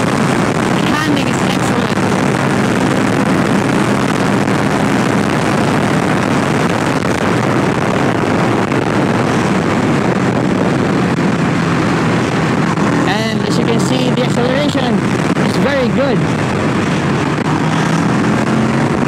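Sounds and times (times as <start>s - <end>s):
motorcycle engine running: 0.0s - 19.0s
wind noise: 0.0s - 19.0s.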